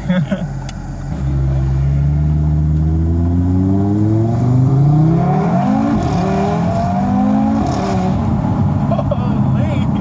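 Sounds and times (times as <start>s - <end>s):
car engine accelerating hard: 1.1s - 10.0s.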